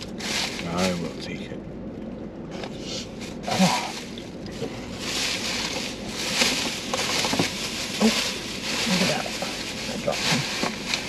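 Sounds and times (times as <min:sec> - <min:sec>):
plastic bag rustling: 0:00.0 - 0:01.2, 0:02.7 - 0:11.0.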